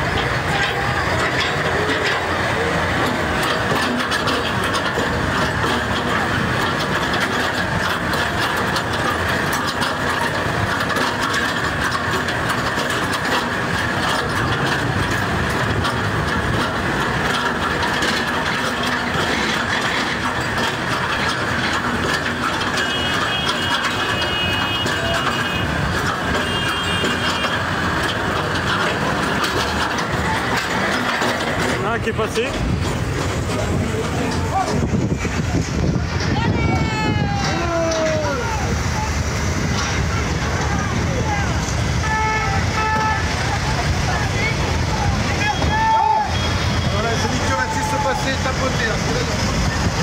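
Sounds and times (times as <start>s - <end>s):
mechanical rattling and clatter: 0.0s - 50.0s
tractor engine running: 0.0s - 50.0s.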